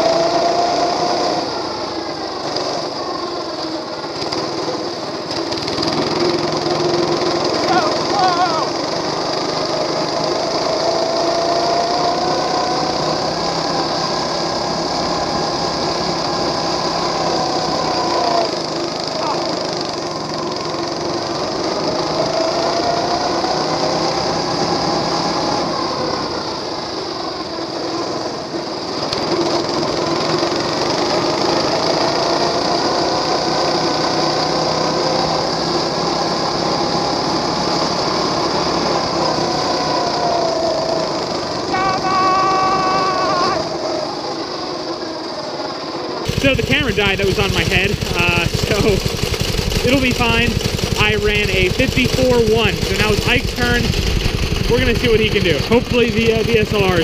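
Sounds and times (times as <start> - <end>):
small gasoline engine revving: 0.0 - 57.0.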